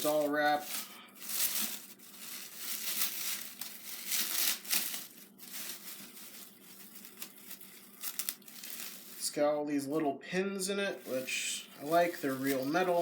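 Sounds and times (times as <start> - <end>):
packaging wrap crinkling: 0.0 - 9.4, 10.9 - 13.0.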